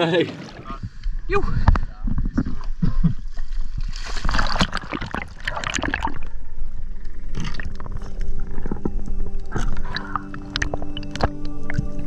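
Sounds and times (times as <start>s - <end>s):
water splashing and gurgling: 0.4s - 12.0s.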